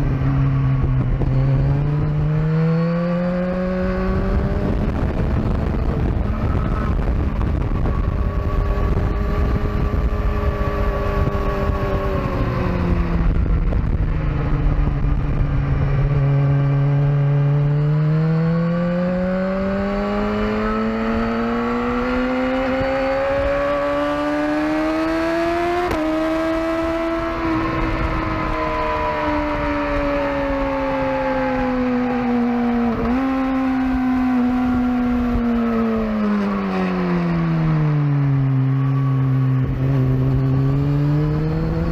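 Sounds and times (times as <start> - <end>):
sport bike engine running hard: 0.0 - 41.9
wind rushing on microphone: 0.0 - 41.9.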